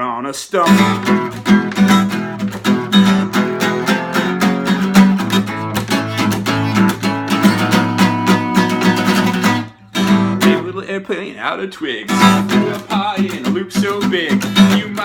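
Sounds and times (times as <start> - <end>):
acoustic guitar strumming: 0.6 - 15.0.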